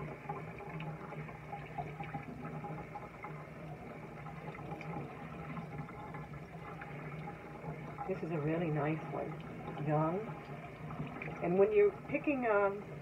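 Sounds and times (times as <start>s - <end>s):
tap water splashing in sink: 0.0s - 13.0s.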